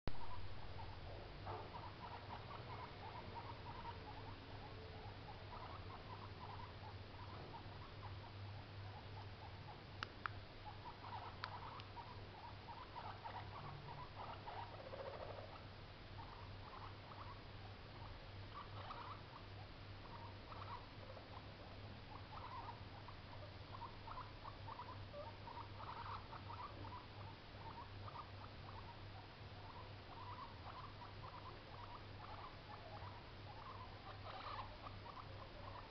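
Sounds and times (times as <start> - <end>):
guinea pig calling: 0.1 - 35.9
steady low hum: 0.1 - 35.9.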